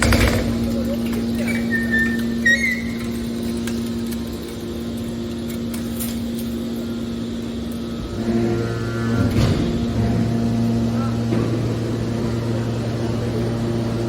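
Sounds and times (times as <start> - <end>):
hydraulic power unit humming: 0.0 - 14.0.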